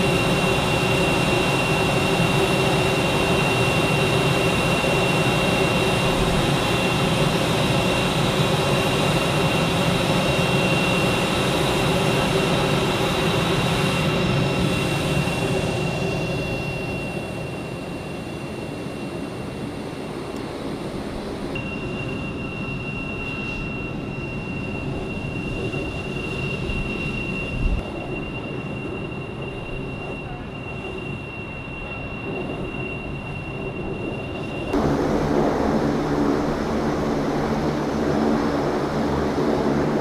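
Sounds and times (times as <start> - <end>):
jet engines idling: 0.0 - 40.0.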